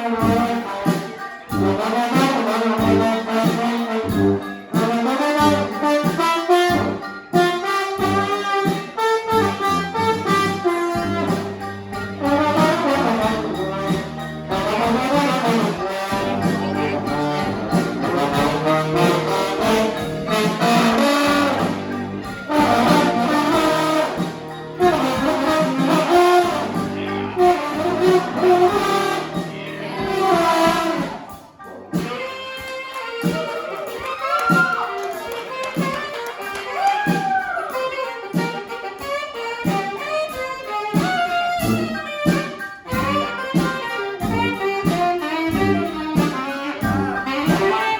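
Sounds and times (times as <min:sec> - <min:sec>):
brass band playing: 0:00.0 - 0:47.9.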